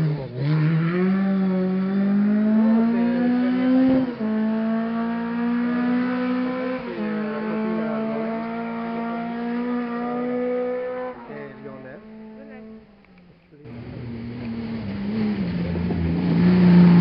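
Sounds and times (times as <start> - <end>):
rally car engine accelerating: 0.0 - 13.0, 13.6 - 17.0.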